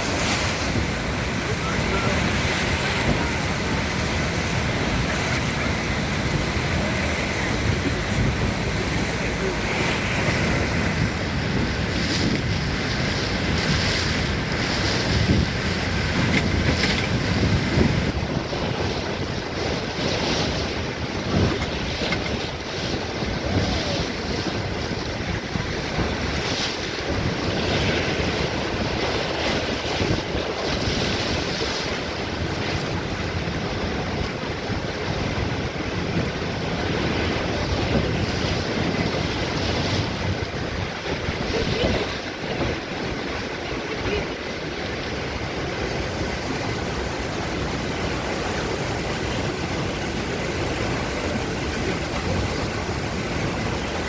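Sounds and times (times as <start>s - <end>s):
water rushing: 0.0s - 54.0s
wind buffeting microphone: 0.0s - 54.0s.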